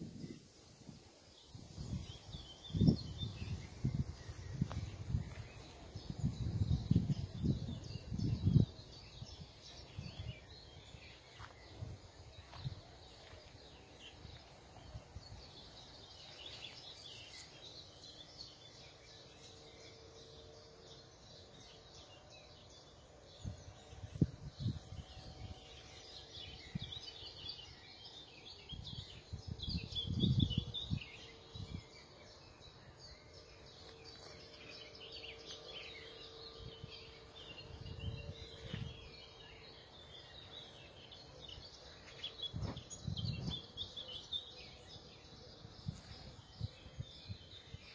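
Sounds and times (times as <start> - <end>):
birds singing and chirping: 0.0 - 47.9.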